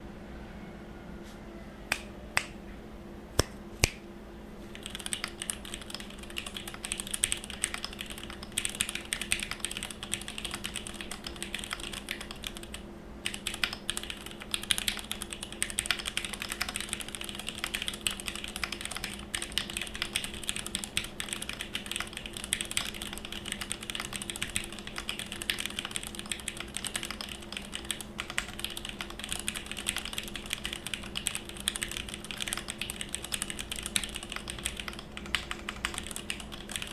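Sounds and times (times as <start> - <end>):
typing on mechanical keyboard: 4.7 - 36.9.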